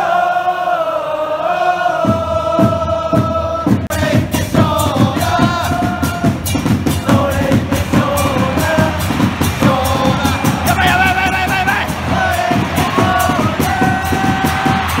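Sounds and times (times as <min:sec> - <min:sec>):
crowd chanting in unison: 0:00.0 - 0:15.0
steady drum beat: 0:02.0 - 0:15.0.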